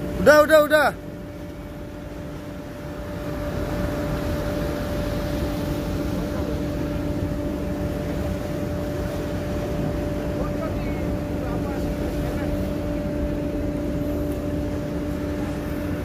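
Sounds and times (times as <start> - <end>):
boat engine humming: 0.0 - 16.0
wind and water rushing: 0.0 - 16.0.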